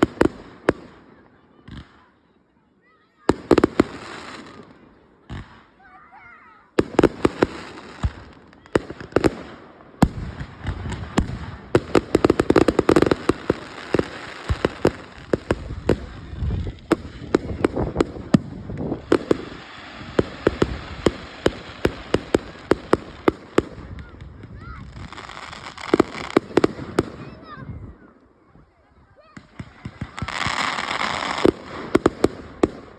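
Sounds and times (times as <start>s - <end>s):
fireworks bangs: 0.0s - 2.2s, 3.0s - 32.9s
fireworks crackle: 0.0s - 32.9s.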